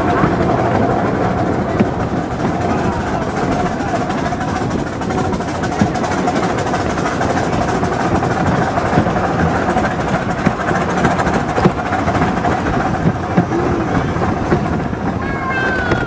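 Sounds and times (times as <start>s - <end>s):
constant hum: 0.0s - 16.0s
ride car wheels rumbling on rails: 0.0s - 16.0s.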